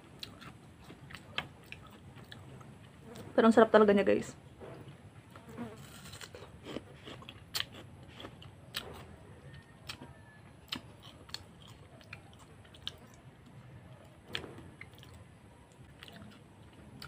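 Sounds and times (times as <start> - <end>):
crunching fruit: 0.0 - 3.3, 4.7 - 17.0.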